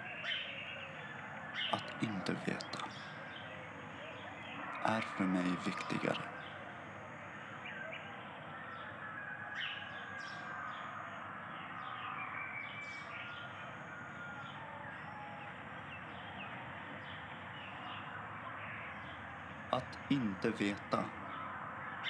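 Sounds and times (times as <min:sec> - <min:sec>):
birds chirping: 0:00.0 - 0:22.0
steady outdoor hiss: 0:00.0 - 0:22.0.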